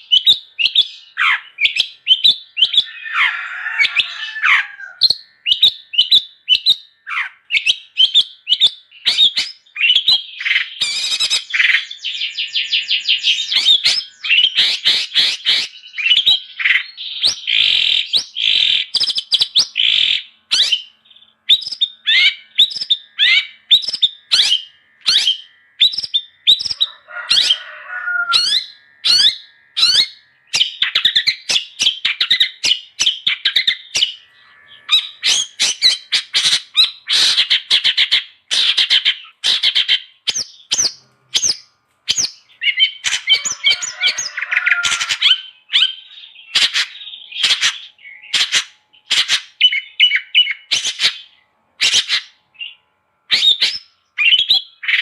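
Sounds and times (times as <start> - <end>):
bird singing sharp chirps: 0.0 - 55.0
bird squawking: 0.0 - 55.0.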